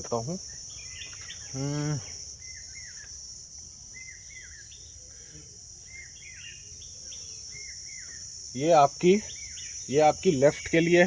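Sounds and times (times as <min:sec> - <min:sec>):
bird chirping: 0:00.0 - 0:11.0
insects droning: 0:00.0 - 0:11.0.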